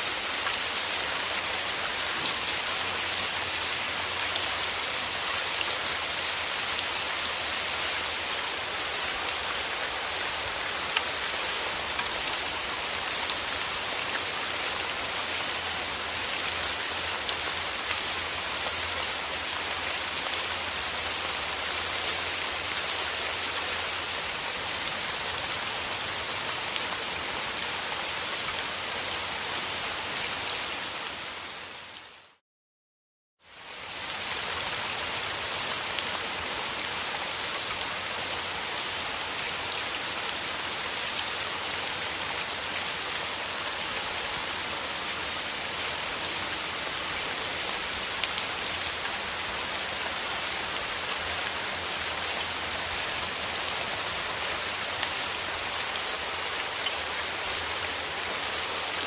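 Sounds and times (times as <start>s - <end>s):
steady rain hiss: 0.0s - 32.4s, 33.5s - 59.0s.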